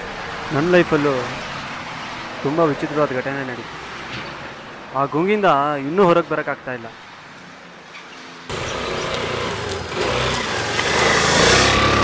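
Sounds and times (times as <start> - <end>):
street traffic with vehicle engines: 0.0 - 12.0.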